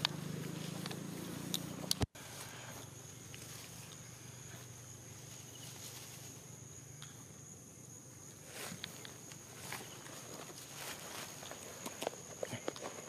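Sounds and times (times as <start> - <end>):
vegetation rustling: 0.0 - 7.0, 8.2 - 13.0
high insect drone: 0.0 - 13.0.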